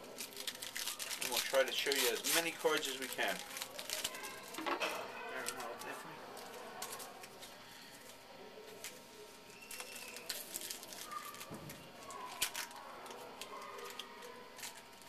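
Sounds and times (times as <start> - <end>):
wrapper and cards rustling: 0.0 - 15.0.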